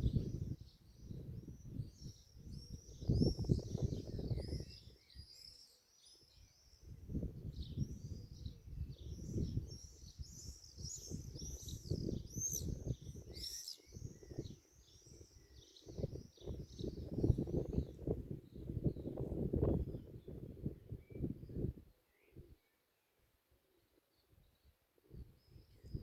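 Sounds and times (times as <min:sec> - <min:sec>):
small birds chirping: 0:00.0 - 0:23.1.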